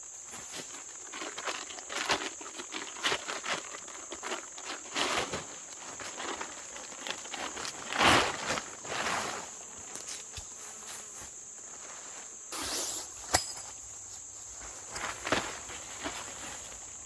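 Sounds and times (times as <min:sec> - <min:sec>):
insects droning: 0:00.0 - 0:17.0
rustling and crunching: 0:00.0 - 0:17.0.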